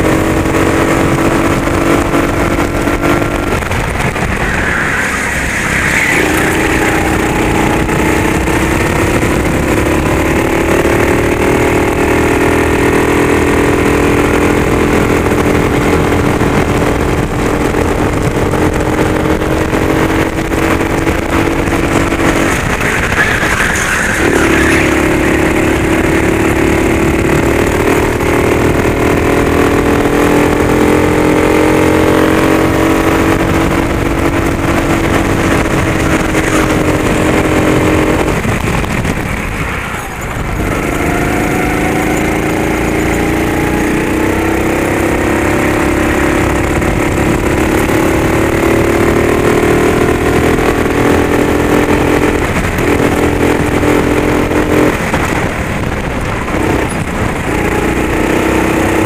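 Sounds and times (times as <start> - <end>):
go-kart engine at full throttle: 0.0 - 59.0.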